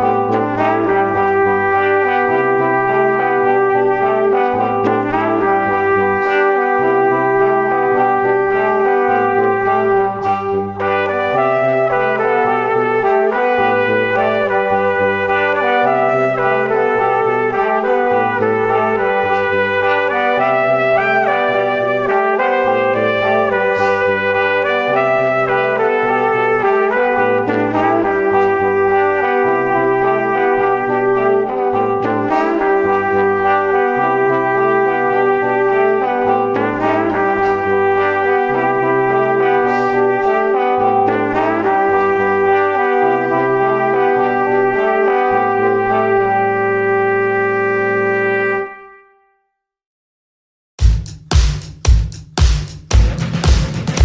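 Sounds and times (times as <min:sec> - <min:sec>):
bass line: 0:00.0 - 0:48.6, 0:50.8 - 0:54.0
brass-like chords: 0:00.0 - 0:49.2, 0:50.8 - 0:54.0.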